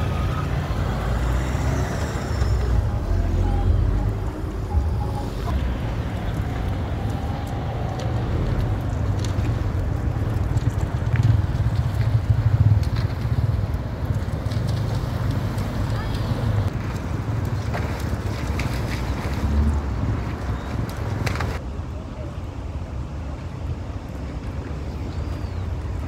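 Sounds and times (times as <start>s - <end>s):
wind buffeting microphone: 0.0s - 21.6s
road traffic passing: 0.0s - 26.0s.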